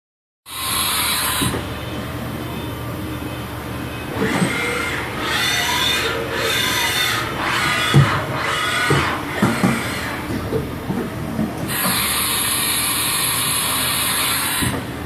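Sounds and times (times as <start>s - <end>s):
machining center humming: 0.5s - 15.0s.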